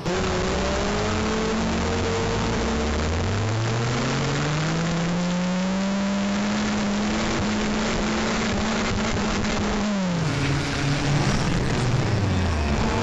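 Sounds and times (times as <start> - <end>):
stock car engine accelerating: 0.0 - 13.0
wind and track noise: 0.0 - 13.0.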